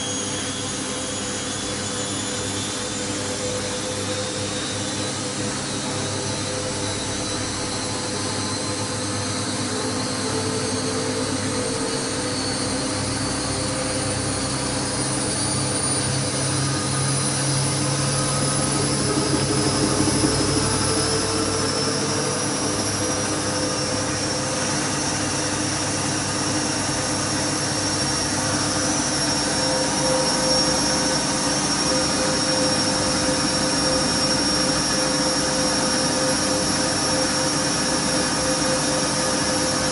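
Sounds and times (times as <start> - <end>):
washing machine spinning: 2.7 - 39.9.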